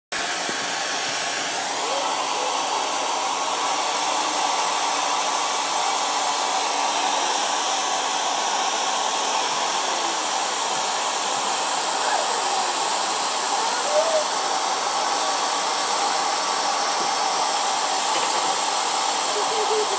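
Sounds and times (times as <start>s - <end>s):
hair dryer running: 0.2s - 19.9s.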